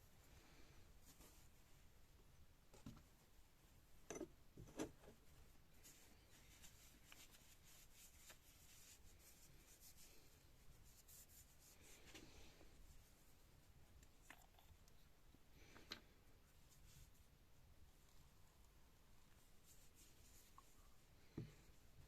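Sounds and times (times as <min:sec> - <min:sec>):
faint rubbing and scratching: 0:00.0 - 0:03.8, 0:04.6 - 0:14.7, 0:16.5 - 0:22.0.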